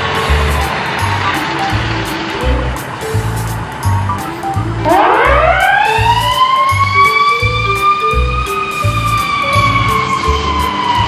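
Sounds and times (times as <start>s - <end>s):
fire truck siren wailing: 0.0s - 11.0s
music with steady beat: 0.0s - 11.0s.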